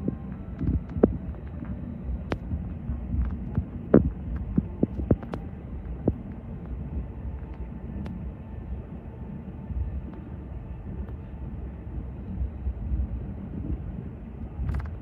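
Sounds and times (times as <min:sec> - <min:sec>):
low rumble in aircraft cabin: 0:00.0 - 0:15.0.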